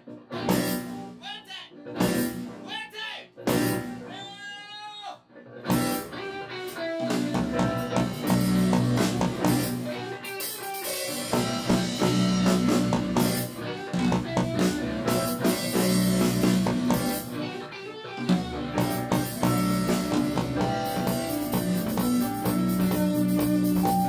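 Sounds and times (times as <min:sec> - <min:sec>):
live rock band playing: 0:00.0 - 0:02.7, 0:03.4 - 0:04.3, 0:05.6 - 0:24.0.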